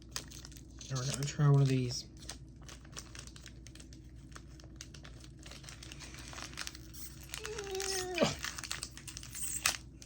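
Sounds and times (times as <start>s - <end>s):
snack packaging crinkling: 0.0s - 10.0s.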